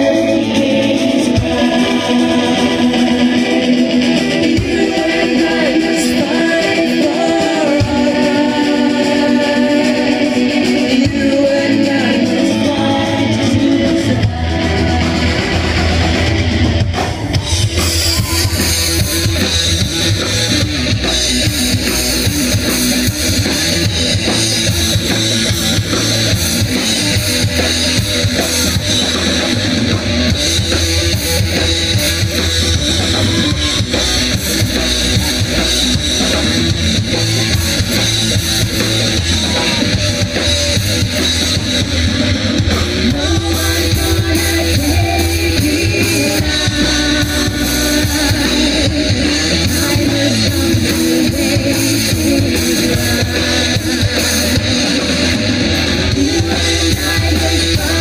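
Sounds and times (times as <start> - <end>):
drum kit: 0.0 - 58.0
electric guitars: 0.0 - 58.0
live rock band playing: 0.0 - 58.0.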